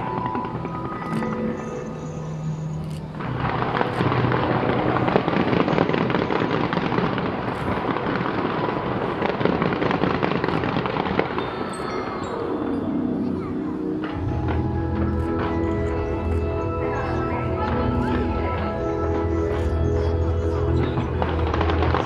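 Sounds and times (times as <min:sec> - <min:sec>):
fireworks crackling pops and bangs: 0:00.0 - 0:22.0.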